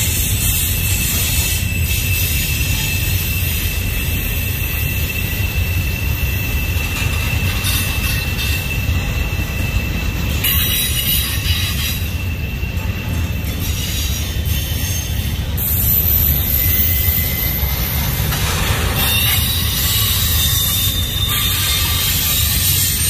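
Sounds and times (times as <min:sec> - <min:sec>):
steel wheels rumbling on rail: 0:00.0 - 0:23.0
high-pitched wheel squeal: 0:00.1 - 0:23.0.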